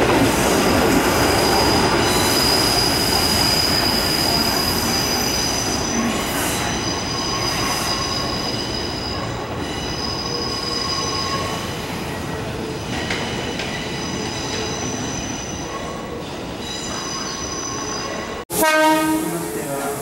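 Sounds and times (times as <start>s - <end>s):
train wheels squealing: 0.2s - 18.4s.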